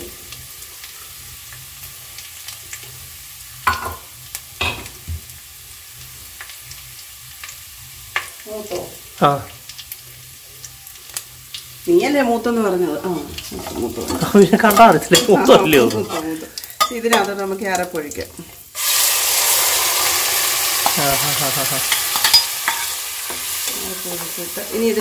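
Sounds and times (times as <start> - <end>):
shallots sizzling in oil: 0.0 - 25.0.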